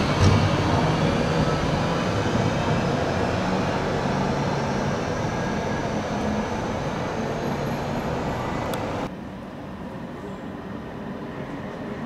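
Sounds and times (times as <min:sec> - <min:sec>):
passing car traffic: 0:00.0 - 0:12.0
tram rumbling with whine: 0:00.0 - 0:12.0.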